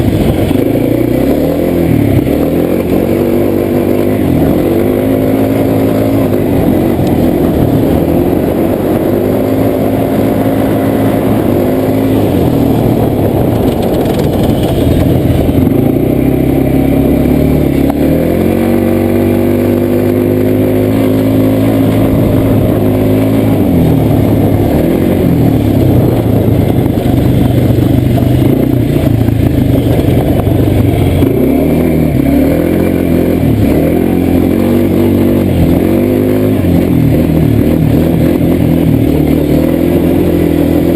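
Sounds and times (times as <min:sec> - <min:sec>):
quad bike engine revving: 0:00.0 - 0:40.9.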